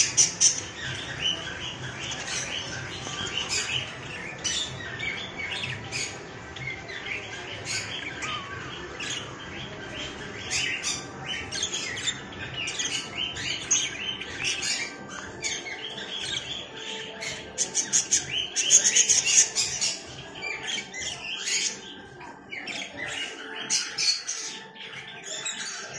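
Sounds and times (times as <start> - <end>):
budgerigars chirping and chattering: 0.0 - 25.9.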